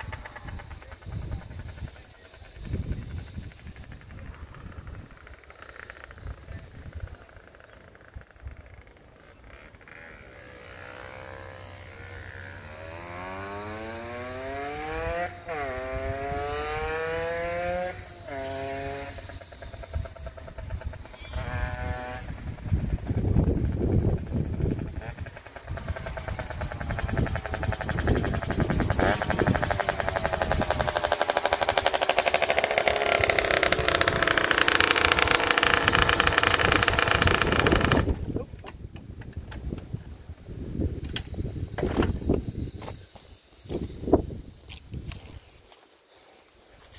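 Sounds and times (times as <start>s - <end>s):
two-stroke motorcycle accelerating: 0.0s - 45.8s.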